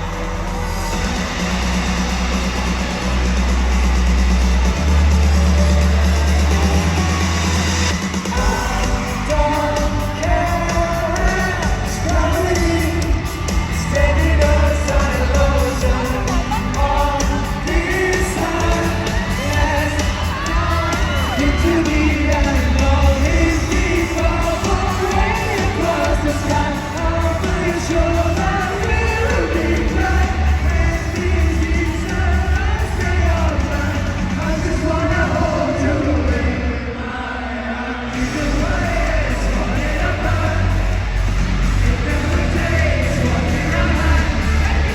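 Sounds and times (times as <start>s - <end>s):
backing track with bass beat: 0.0s - 36.6s, 38.1s - 44.9s
person singing pop song live: 5.2s - 44.9s.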